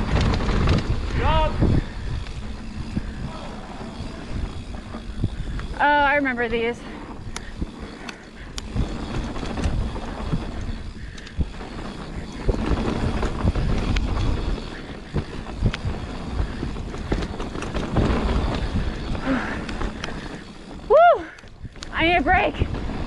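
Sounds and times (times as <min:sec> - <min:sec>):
bike rattling over bumps: 0:00.0 - 0:23.0
tyres rolling on dirt: 0:00.0 - 0:23.0
wind rushing over microphone: 0:00.0 - 0:23.0.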